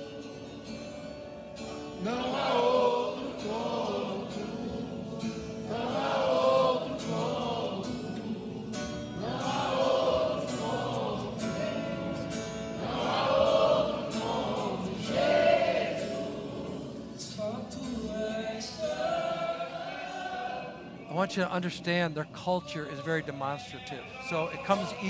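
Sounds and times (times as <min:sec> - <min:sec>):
congregation singing: 0:00.0 - 0:25.0.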